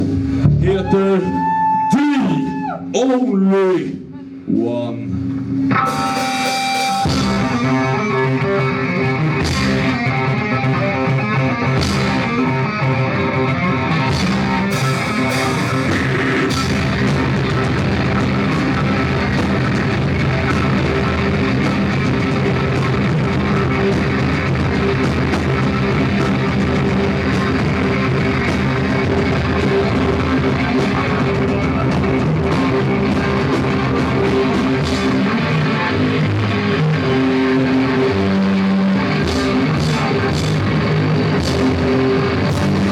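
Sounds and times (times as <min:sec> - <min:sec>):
rock band playing live: 0:05.6 - 0:42.9.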